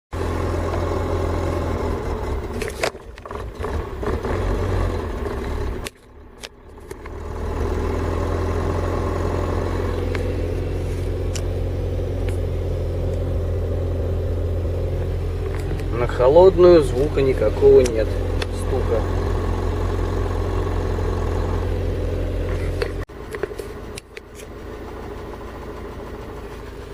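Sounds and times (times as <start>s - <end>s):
car engine idling: 0.1s - 26.9s.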